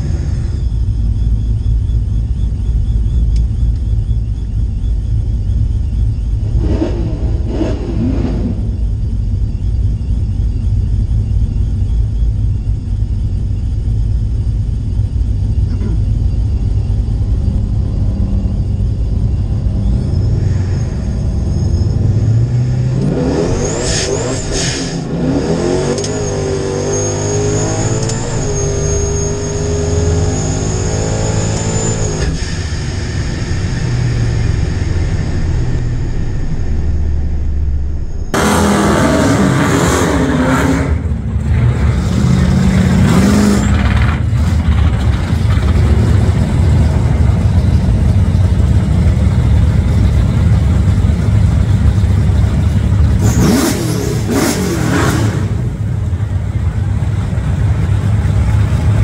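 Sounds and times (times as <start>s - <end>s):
engine rumbling and revving: 0.0s - 59.0s
supercharger whine: 0.0s - 59.0s.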